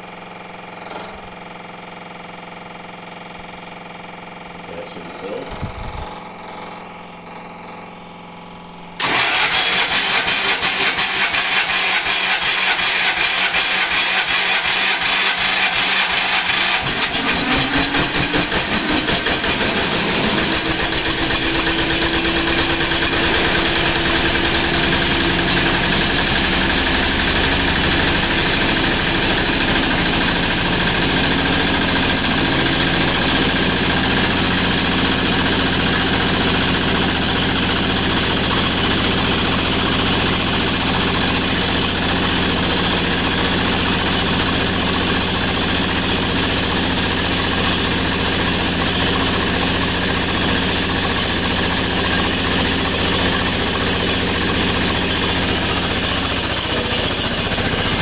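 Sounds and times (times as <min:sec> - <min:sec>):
diesel generator starting and running: 0:00.0 - 0:58.0.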